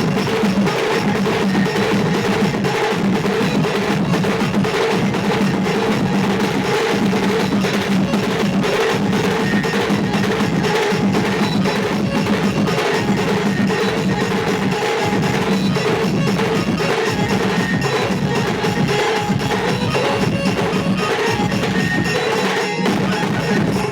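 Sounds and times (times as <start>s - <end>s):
loud dance music: 0.0s - 23.9s.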